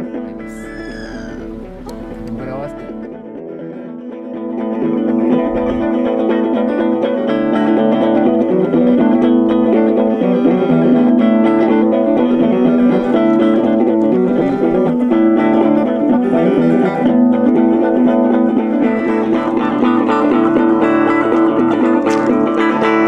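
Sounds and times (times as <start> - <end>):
plucked guitar music: 0.0 - 23.0.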